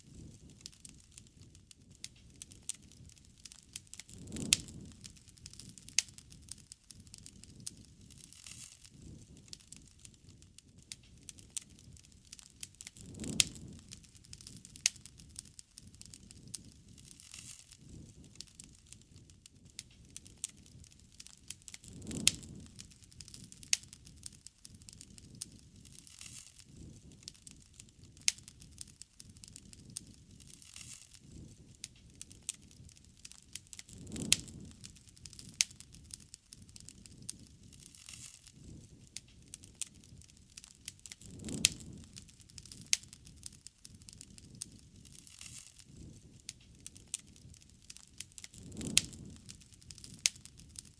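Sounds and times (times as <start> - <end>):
flames rumbling: 0.0 - 50.9
wood crackling and popping: 0.0 - 50.9.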